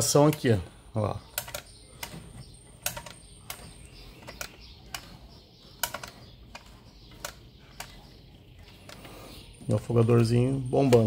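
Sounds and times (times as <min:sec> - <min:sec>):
carburetor linkage clicking: 0:01.2 - 0:09.2, 0:09.8 - 0:11.0.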